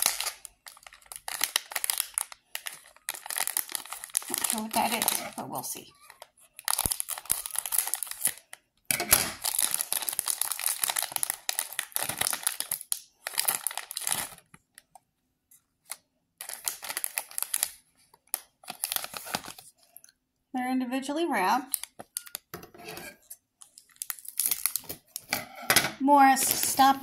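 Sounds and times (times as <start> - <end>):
plastic snack bag crinkling: 0.0 - 8.7, 9.3 - 20.1, 21.6 - 22.6, 23.2 - 25.3, 26.2 - 27.0.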